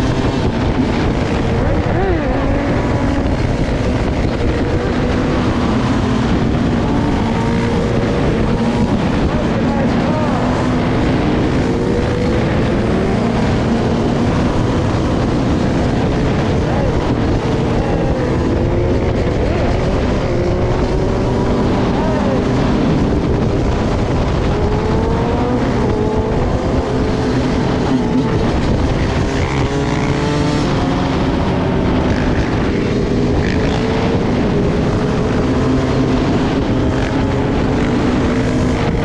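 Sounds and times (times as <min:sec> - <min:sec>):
motor engines running: 0:00.0 - 0:39.0.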